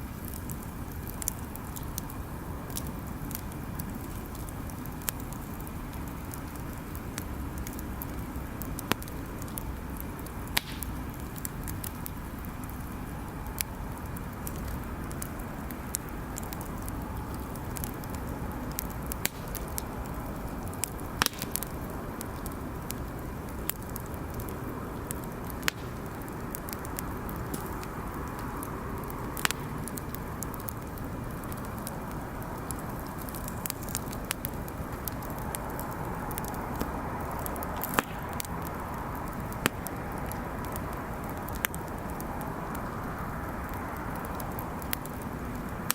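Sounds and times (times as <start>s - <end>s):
bonfire crackling and popping: 0.0s - 45.9s.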